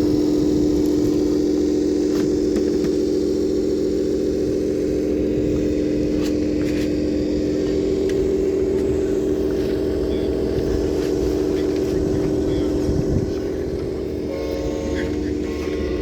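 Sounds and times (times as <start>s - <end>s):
low steady machine hum: 0.0s - 16.0s.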